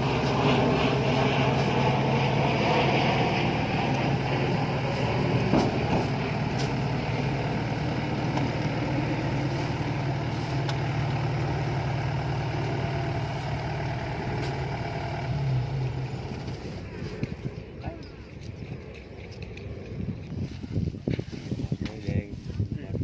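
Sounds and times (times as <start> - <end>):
diesel engine running: 0.0 - 21.2.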